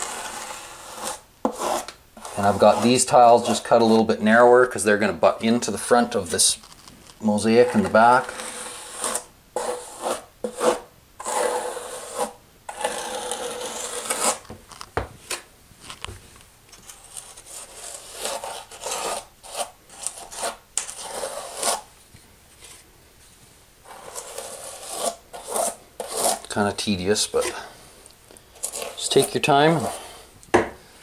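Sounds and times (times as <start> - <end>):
tile scraping on mortar: 0.0 - 4.4, 5.6 - 16.0, 16.8 - 21.9, 23.8 - 26.6, 27.2 - 27.8, 28.5 - 30.3.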